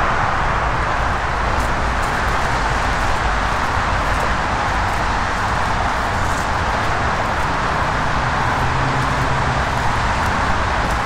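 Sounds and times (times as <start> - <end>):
freeway traffic noise: 0.0 - 11.0.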